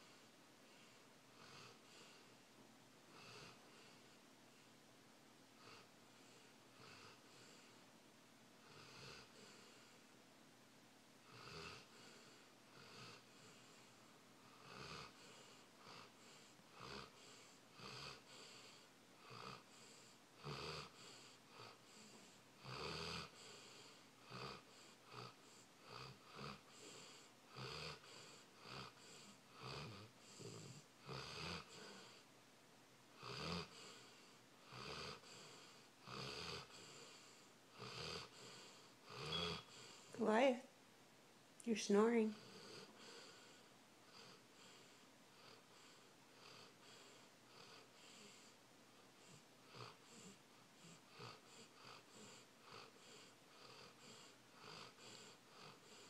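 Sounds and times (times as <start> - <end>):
pet snoring faintly: 0.0 - 2.4, 3.1 - 4.7, 5.6 - 7.9, 8.6 - 10.1, 11.2 - 32.3, 33.1 - 40.6, 41.7 - 56.0.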